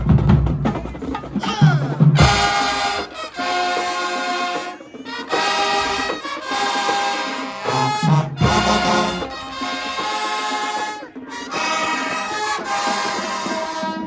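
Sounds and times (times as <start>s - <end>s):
marching band playing: 0.0s - 14.0s
brass held chords: 2.2s - 14.0s.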